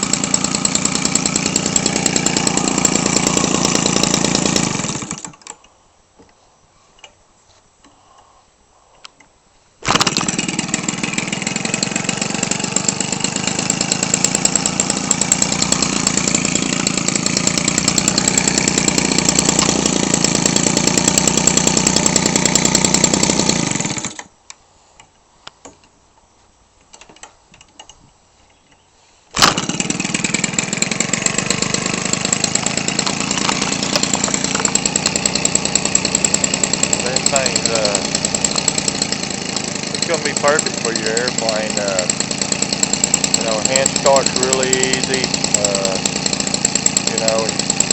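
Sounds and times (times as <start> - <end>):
two-stroke engine running: 0.0 - 5.4, 9.8 - 24.3, 29.4 - 47.9.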